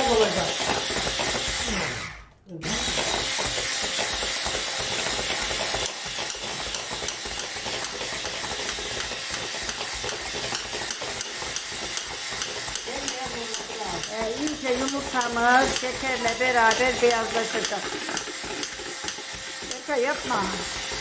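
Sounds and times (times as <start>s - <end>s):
electric hand mixer whisking: 0.0s - 21.0s.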